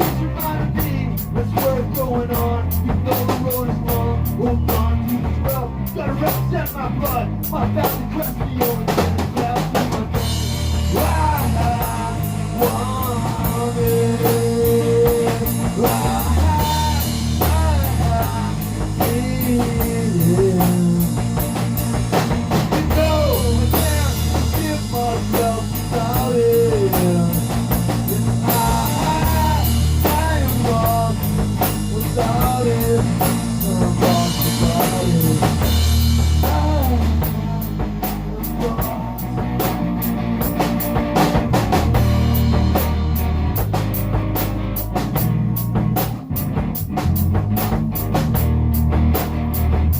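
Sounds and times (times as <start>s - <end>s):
drum kit beat: 0.0s - 49.9s
electric guitar lead line: 0.0s - 49.9s
heavy bass notes: 0.0s - 49.9s.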